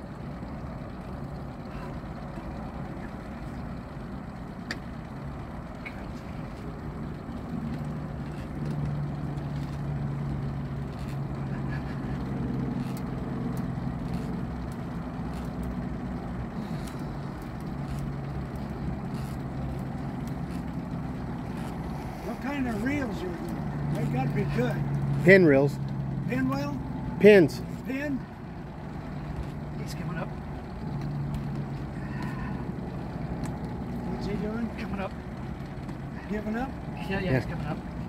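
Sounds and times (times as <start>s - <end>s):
boat motor running: 0.0s - 38.0s.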